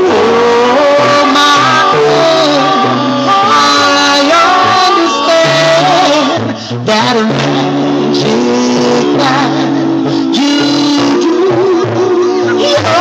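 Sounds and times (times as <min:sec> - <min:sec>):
male group singing a cappella: 0:00.0 - 0:13.0.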